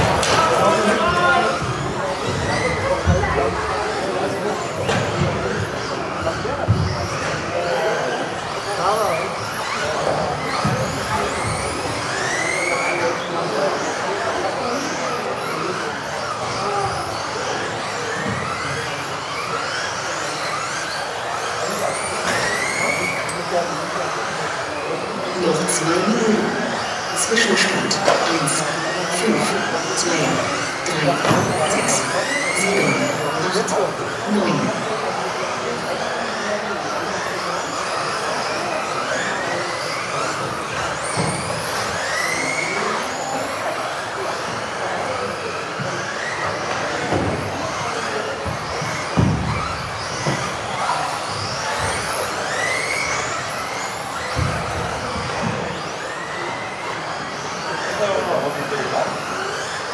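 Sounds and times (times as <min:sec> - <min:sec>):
rc car motors whining: 0:00.0 - 0:59.9.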